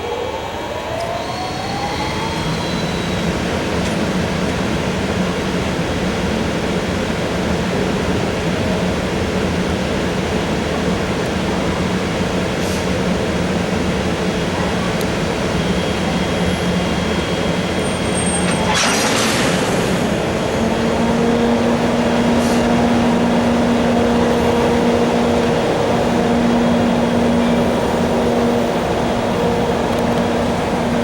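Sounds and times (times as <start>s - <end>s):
freight train rumbling past: 0.0s - 31.0s
loud rush of noise: 0.0s - 31.0s.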